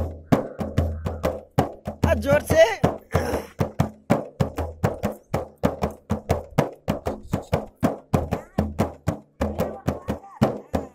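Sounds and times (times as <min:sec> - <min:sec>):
frame drum beaten by hand: 0:00.0 - 0:10.9.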